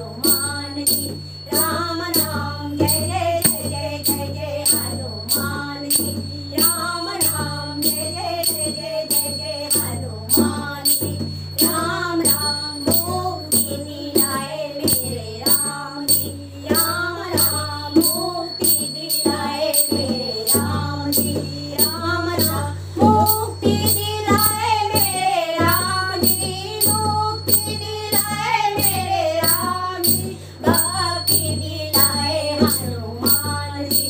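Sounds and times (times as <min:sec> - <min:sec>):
hand drum: 0:00.0 - 0:34.0
small cymbals struck: 0:00.0 - 0:34.0
women singing devotional song: 0:00.0 - 0:34.0.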